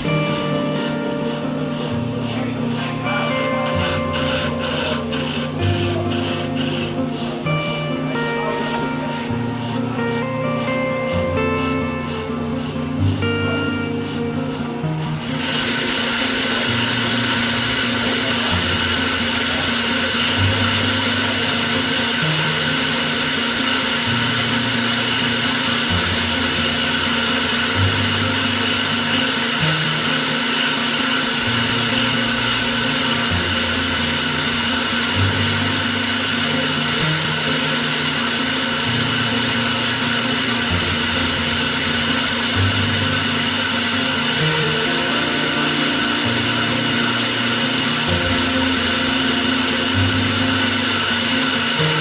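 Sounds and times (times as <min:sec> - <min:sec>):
background music with bass line: 0:00.0 - 0:52.0
power tool whirring: 0:00.0 - 0:52.0.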